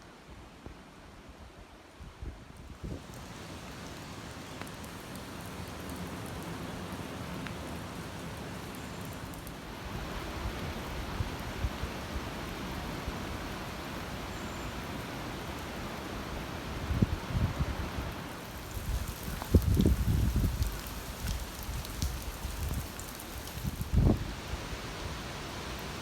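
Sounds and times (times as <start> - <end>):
heavy rain hissing: 2.8 - 26.0.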